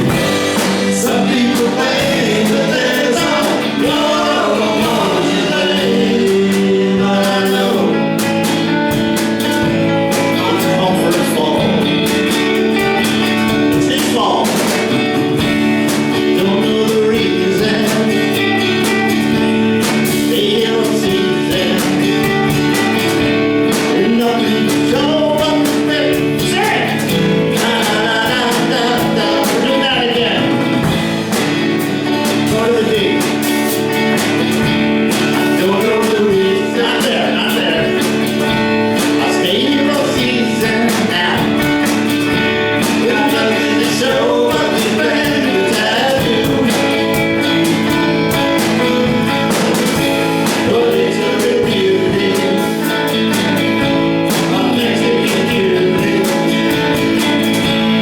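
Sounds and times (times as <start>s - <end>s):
drums: 0.0s - 58.0s
electric guitar: 0.0s - 58.0s
person singing: 0.0s - 58.0s.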